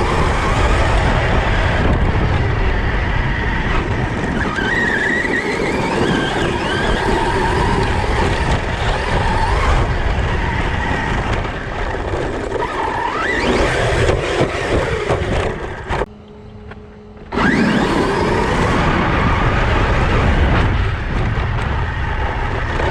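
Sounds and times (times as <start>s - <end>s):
tyres rumbling on ground: 0.0s - 16.1s, 17.2s - 22.9s
electric motor whining: 0.0s - 22.9s.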